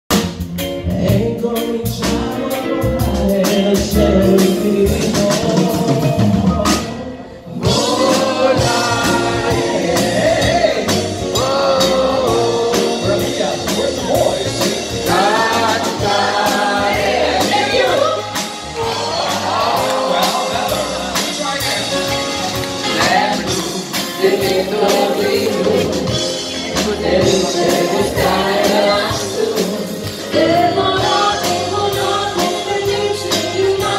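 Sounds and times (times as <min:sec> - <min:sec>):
live band playing: 0:00.1 - 0:33.9
group of singers: 0:00.8 - 0:33.9.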